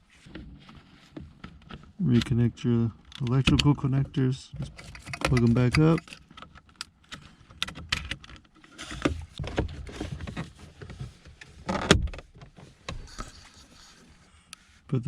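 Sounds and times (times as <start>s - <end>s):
handling rustles: 0.0s - 14.9s.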